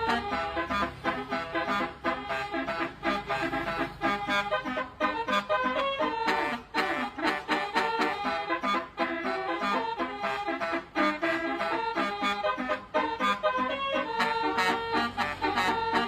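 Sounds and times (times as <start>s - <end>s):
multi-tone horn melody: 0.0s - 16.0s.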